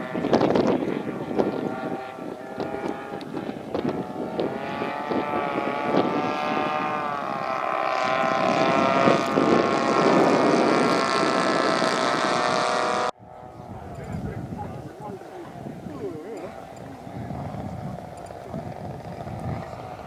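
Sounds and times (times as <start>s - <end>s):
model plane engines droning: 0.0s - 20.0s.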